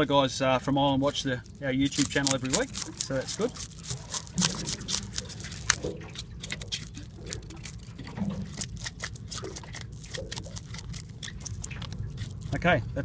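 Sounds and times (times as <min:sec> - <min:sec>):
knife scraping fish scales: 0:01.0 - 0:12.7.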